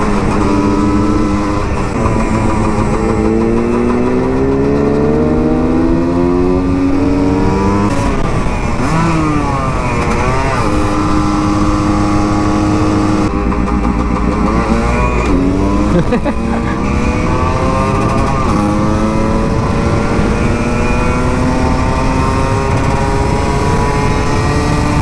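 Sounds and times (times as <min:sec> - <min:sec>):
two-stroke motorcycle engine revving: 0:00.0 - 0:25.0.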